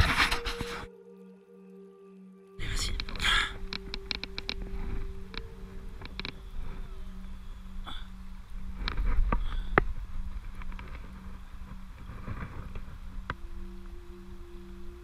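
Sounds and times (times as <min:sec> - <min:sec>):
low rumble: 0:02.6 - 0:15.0.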